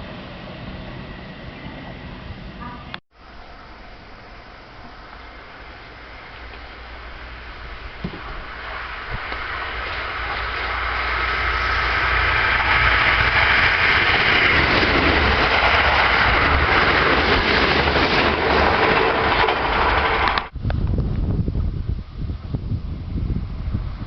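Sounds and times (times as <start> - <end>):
electric train running past: 0.0 - 20.6.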